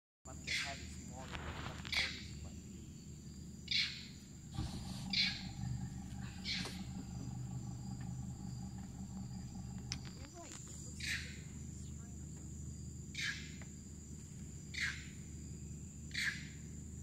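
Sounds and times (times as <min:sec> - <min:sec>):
high insect drone: 0:00.3 - 0:17.0.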